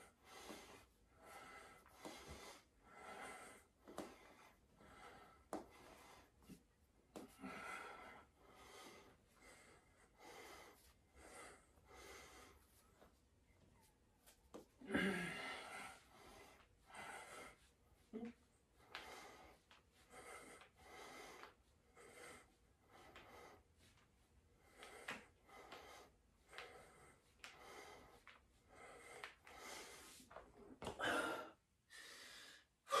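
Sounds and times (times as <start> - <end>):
man breathing hard: 0.0 - 13.2, 14.8 - 17.7, 18.8 - 23.8, 24.6 - 33.0.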